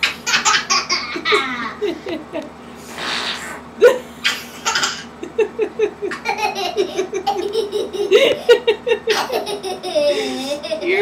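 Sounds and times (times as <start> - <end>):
young child laughing: 0.0 - 2.4, 3.8 - 11.0.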